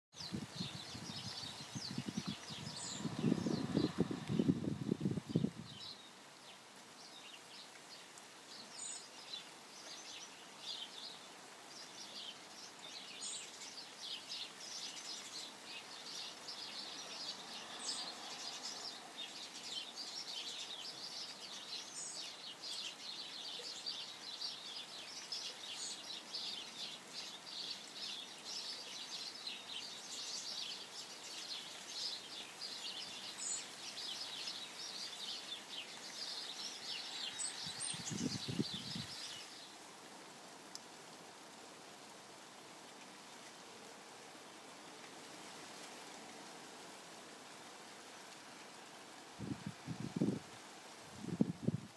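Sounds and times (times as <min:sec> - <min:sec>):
light rain hiss: 0:00.1 - 0:51.9.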